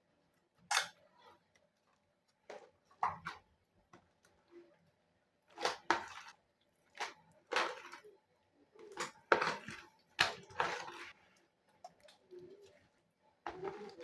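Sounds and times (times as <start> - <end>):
slime squelching: 0.3 - 14.0.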